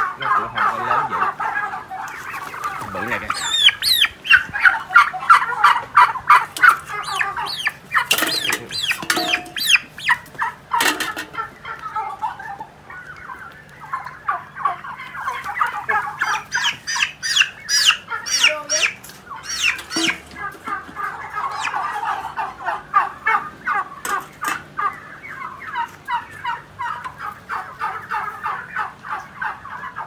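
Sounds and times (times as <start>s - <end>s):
young turkeys peeping: 0.0s - 30.0s.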